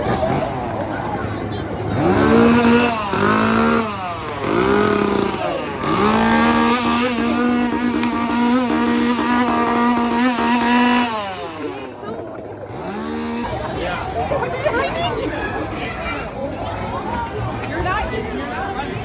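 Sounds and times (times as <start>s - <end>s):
chainsaw engine revving: 0.0s - 19.0s.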